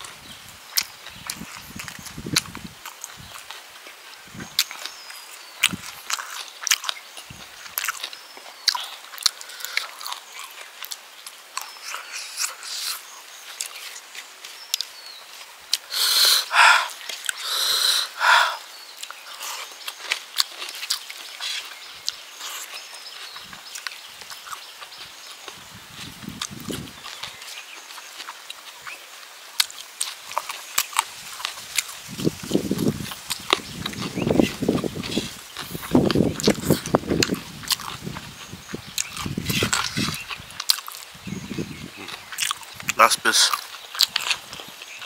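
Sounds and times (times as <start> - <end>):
wet chewing and lip-smacking: 0.7 - 45.0.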